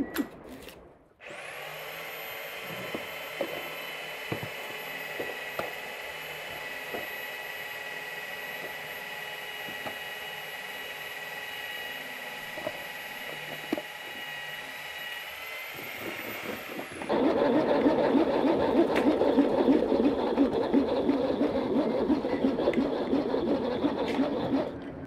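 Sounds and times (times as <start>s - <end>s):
motor whine: 1.2s - 25.0s.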